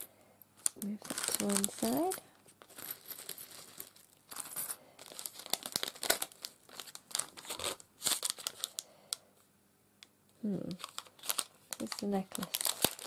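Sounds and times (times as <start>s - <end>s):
cellophane packaging crinkling: 0.6s - 8.9s, 10.6s - 13.0s.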